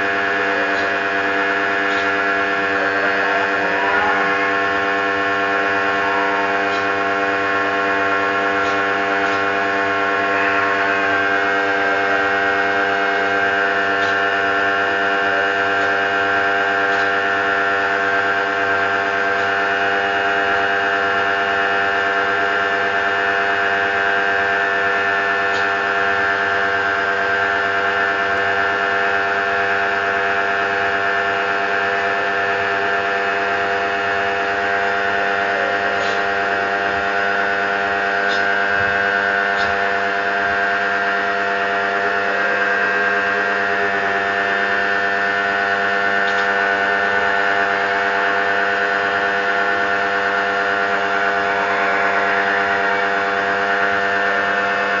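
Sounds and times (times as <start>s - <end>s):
pressure washer motor humming: 0.0s - 55.0s.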